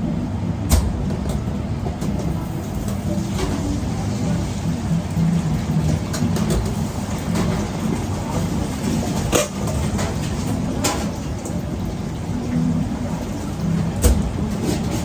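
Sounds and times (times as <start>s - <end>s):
kitchen equipment humming: 0.0s - 15.0s.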